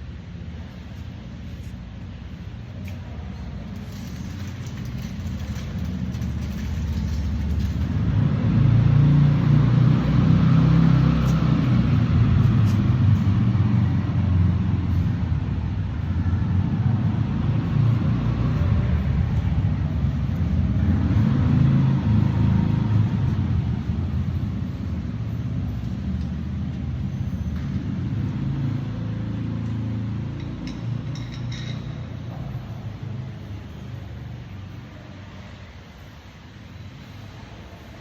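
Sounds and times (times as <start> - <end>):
motorcycle rumbling: 0.0 - 35.6.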